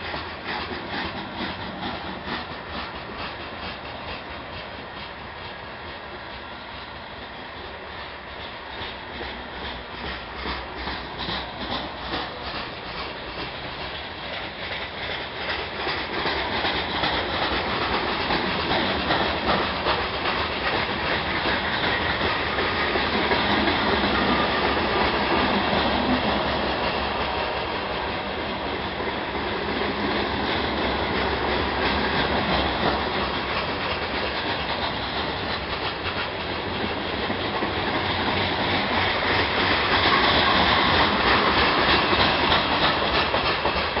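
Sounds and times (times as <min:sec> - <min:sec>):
wheels clicking over rail joints: 0:00.0 - 0:06.6, 0:07.6 - 0:44.0
freight train rolling past: 0:00.0 - 0:44.0.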